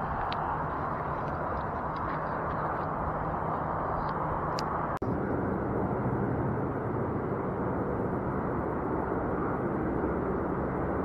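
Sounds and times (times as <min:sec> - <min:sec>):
muffled road traffic rumble: 0:00.0 - 0:11.0.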